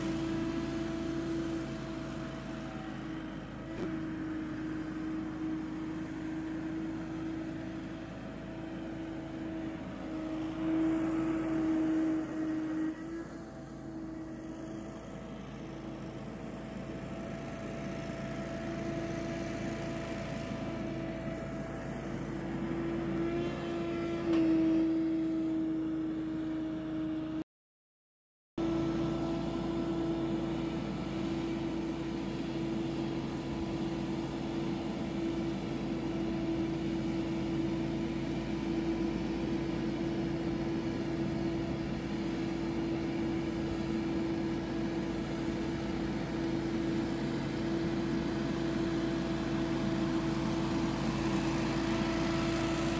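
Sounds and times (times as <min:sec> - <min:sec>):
leaf blower running: 0:00.0 - 0:27.4, 0:28.6 - 0:52.9.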